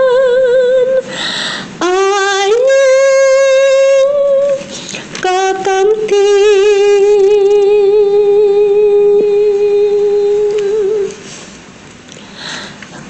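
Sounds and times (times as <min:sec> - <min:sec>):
woman singing unaccompanied: 0:00.0 - 0:01.1, 0:01.8 - 0:11.3.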